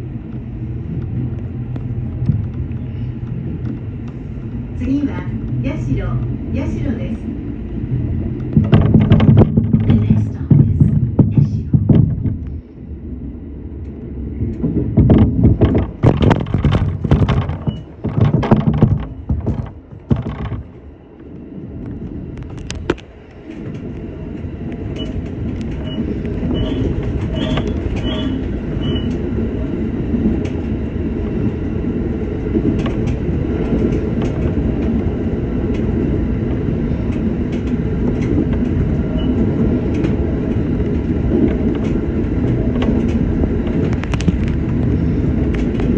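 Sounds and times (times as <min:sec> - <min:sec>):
train wheels rumbling: 0:00.0 - 0:45.9.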